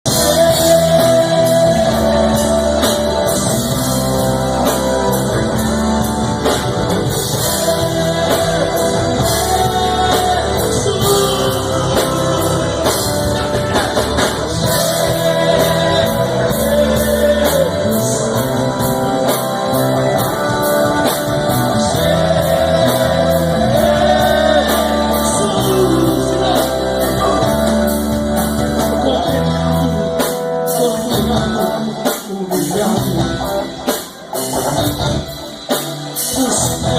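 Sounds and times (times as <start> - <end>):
live band with drums and guitar: 0.0 - 36.9.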